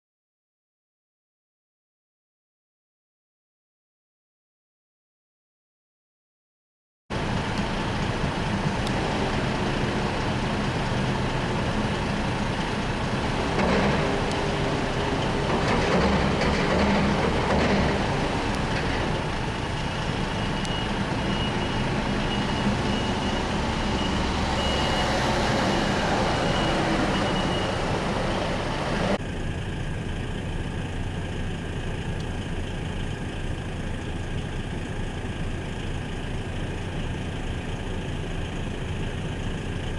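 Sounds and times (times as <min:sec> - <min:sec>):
diesel truck engine running: 0:07.1 - 0:39.9.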